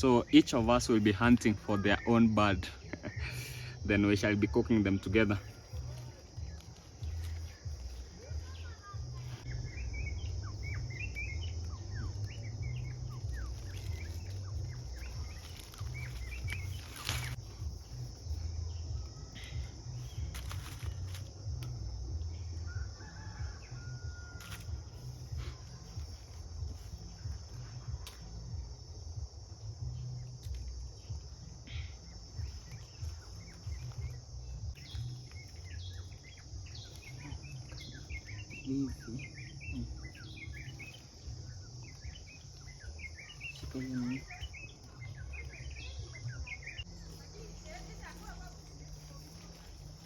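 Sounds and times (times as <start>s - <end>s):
bird chirps: 0.0s - 21.0s, 29.8s - 50.0s
high insect drone: 0.0s - 50.0s.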